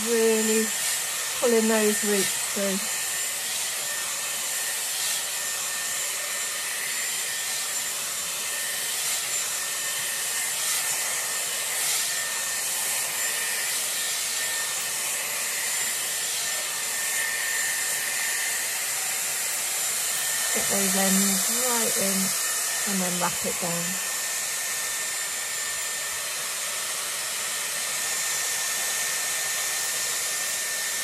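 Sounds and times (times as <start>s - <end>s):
hair styler blowing air: 0.0s - 31.0s.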